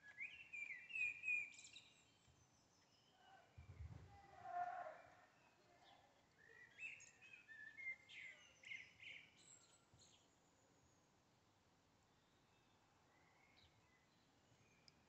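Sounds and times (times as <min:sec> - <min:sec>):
faint birdsong chirps and trills: 0:00.0 - 0:15.0.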